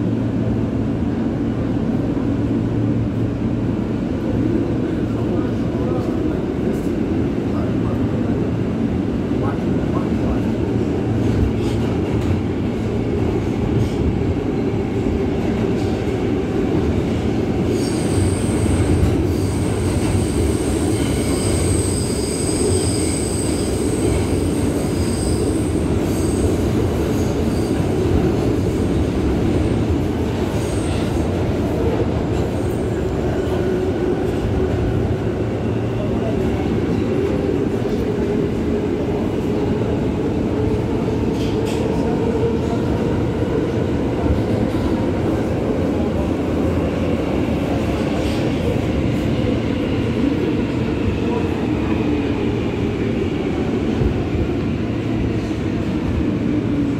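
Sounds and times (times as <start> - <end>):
wheels rumbling on rail: 0.0 - 56.9.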